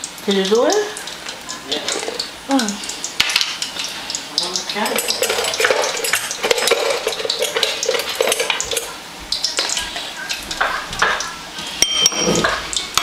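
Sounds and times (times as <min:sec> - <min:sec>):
plantain crackling in oil: 0:00.0 - 0:13.0
kitchenware clinking: 0:01.2 - 0:13.0.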